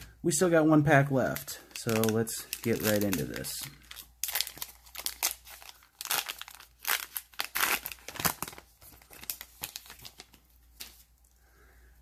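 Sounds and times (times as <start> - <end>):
foil wrapper crinkling and tearing: 1.3 - 11.1.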